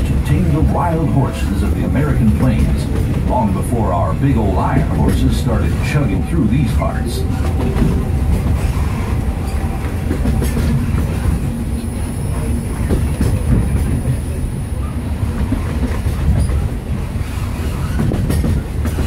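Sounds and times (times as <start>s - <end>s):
train coach rumbling: 0.0s - 19.0s
wheels clacking on rails: 0.0s - 19.0s.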